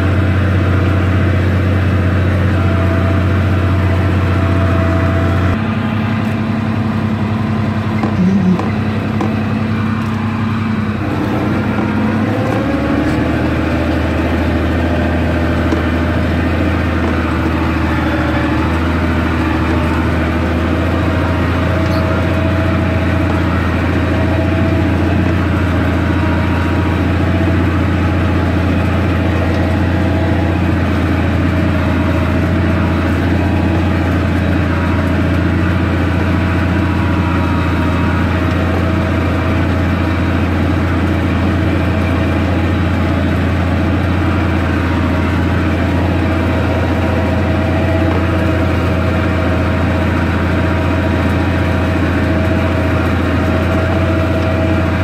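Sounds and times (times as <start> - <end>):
tractor diesel engine drone: 0.0 - 55.0.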